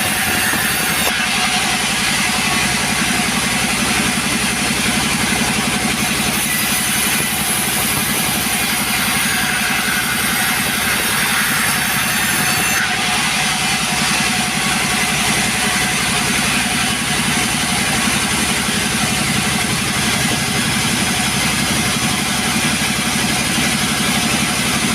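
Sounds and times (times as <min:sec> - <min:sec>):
chainsaw engine running: 0:00.0 - 0:24.9.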